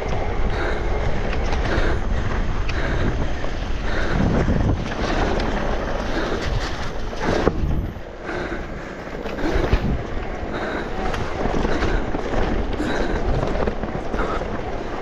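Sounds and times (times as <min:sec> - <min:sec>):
bike rattles and knocks: 0:00.0 - 0:15.0
tyres rumbling on dirt: 0:00.0 - 0:15.0
wind on microphone: 0:00.0 - 0:15.0.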